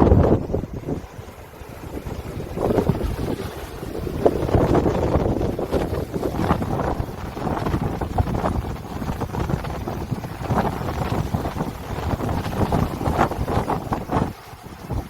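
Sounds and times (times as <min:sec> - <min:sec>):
strong wind over sea: 0:00.0 - 0:15.0
wind buffeting microphone: 0:00.0 - 0:15.0.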